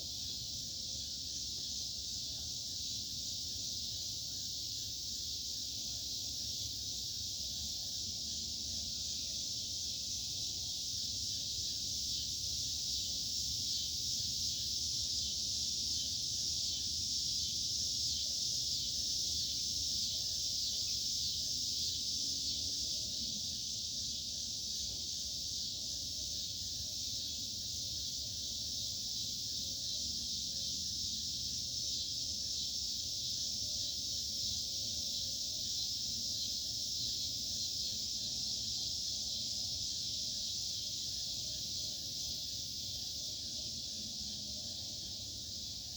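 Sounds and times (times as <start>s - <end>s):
insects buzzing: 0.0s - 45.9s.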